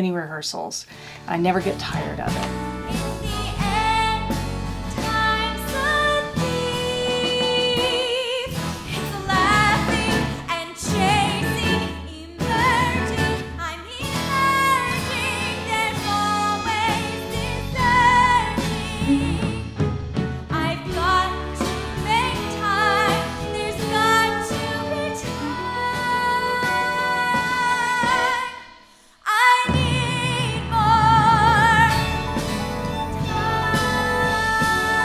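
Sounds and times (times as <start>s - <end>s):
instrumental accompaniment: 1.4s - 28.8s, 29.7s - 35.0s
woman singing: 1.5s - 19.8s, 20.5s - 32.4s, 33.0s - 35.0s.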